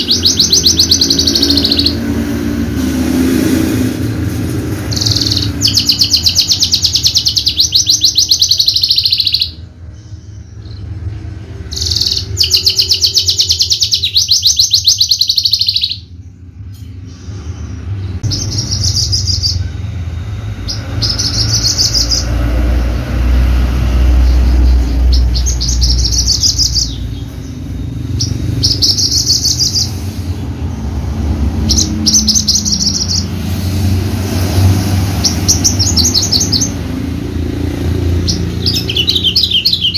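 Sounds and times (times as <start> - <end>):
bird singing rattling trills: 0.0 - 3.9, 4.7 - 39.9.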